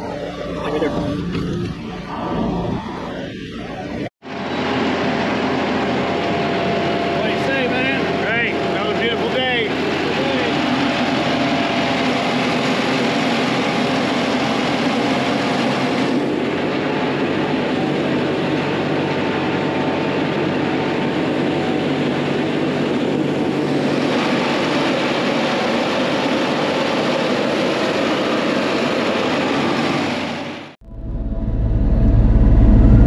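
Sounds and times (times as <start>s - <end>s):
diesel engine running under load: 0.0s - 33.0s.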